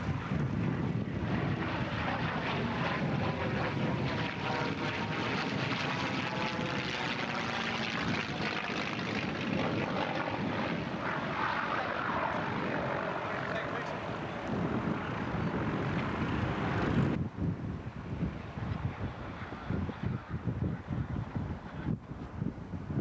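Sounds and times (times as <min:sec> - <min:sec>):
propeller airplane engine: 0:00.0 - 0:21.9.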